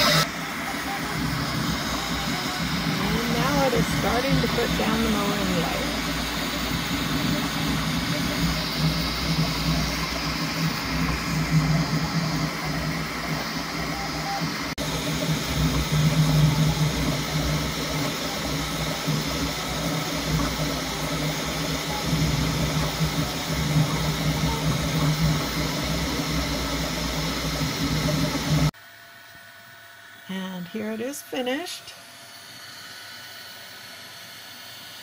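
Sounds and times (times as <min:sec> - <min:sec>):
printer motor hum: 0:00.0 - 0:29.5
printer fan hiss: 0:00.0 - 0:35.0.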